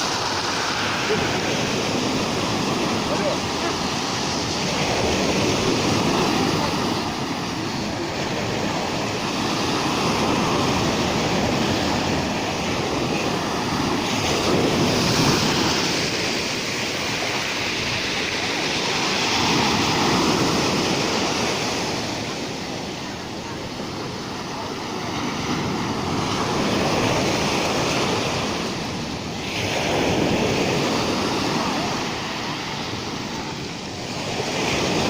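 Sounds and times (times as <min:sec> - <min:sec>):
waves breaking on shore: 0:00.0 - 0:35.0.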